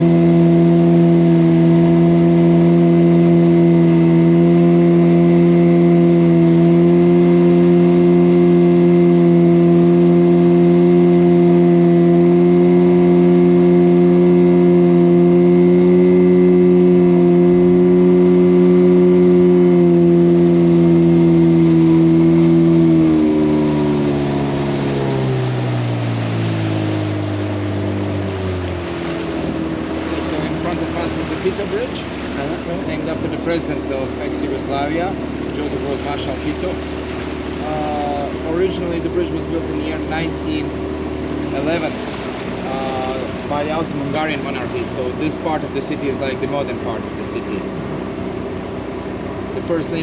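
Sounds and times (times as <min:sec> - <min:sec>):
motorboat engine running: 0:00.0 - 0:50.0.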